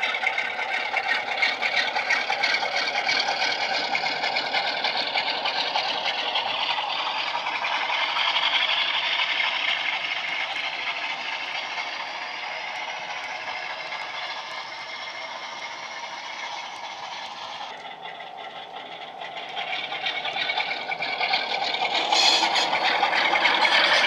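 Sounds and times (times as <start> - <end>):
diesel engine sound from small speaker: 0.0 - 24.0
model train rattling on track: 0.0 - 24.0.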